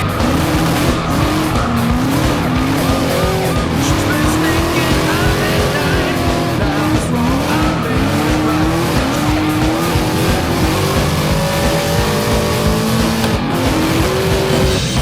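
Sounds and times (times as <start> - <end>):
engines revving hard: 0.0 - 15.0
tyres squealing: 0.0 - 15.0.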